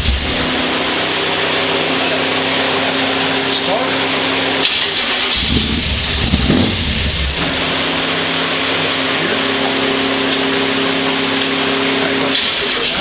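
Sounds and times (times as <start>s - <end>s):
car engine revving then idling: 0.0s - 13.0s.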